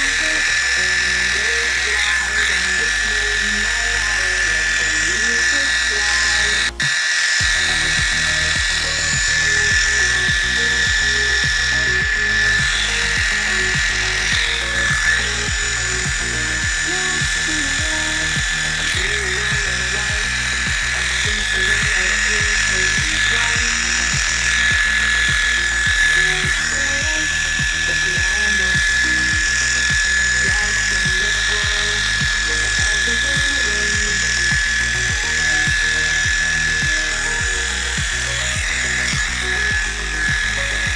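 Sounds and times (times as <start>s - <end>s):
background music with steady beat: 0.0s - 40.9s
electric clipper whining: 0.0s - 40.9s.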